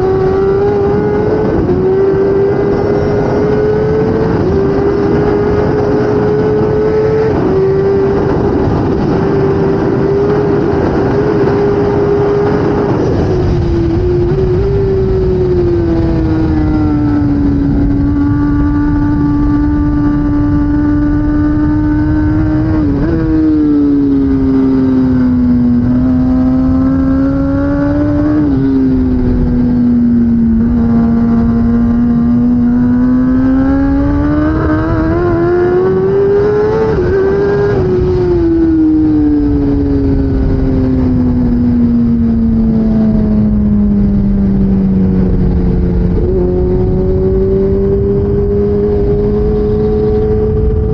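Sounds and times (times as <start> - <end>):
motorcycle engine running at speed: 0.0 - 50.9
wind noise rushing: 0.0 - 50.9.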